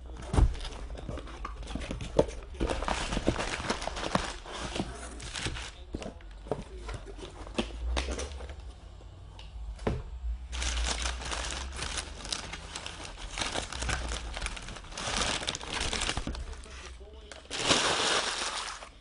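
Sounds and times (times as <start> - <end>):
plastic and paper crinkling: 0.0 - 8.4, 10.5 - 19.0.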